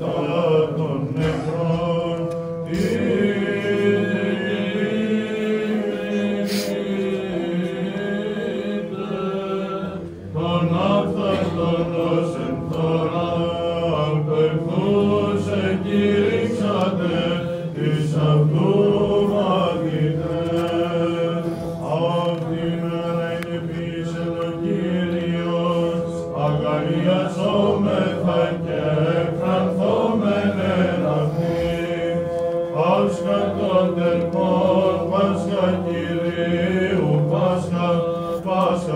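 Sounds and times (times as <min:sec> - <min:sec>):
held drone note: 0:00.0 - 0:38.9
voices chanting a melody: 0:00.0 - 0:38.9.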